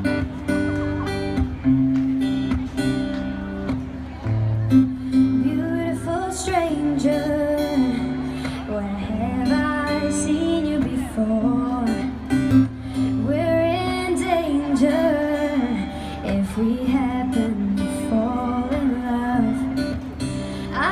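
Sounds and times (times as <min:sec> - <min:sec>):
strummed acoustic guitar: 0:00.0 - 0:20.9.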